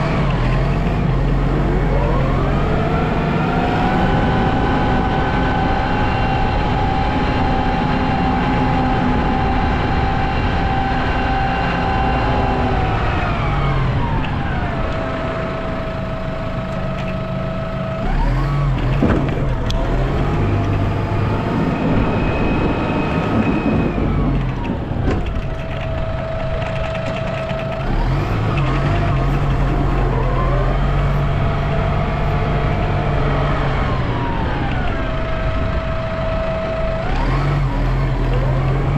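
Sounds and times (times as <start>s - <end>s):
vehicle engine whining: 0.0s - 38.9s.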